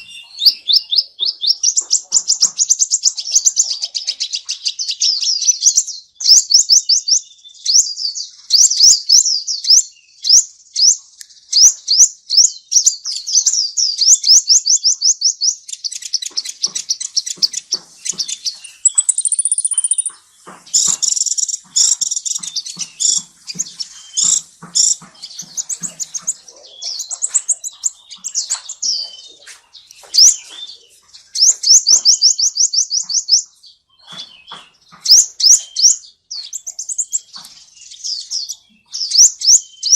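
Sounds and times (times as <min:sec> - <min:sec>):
songbird trilling and chirping: 0:00.0 - 0:39.9.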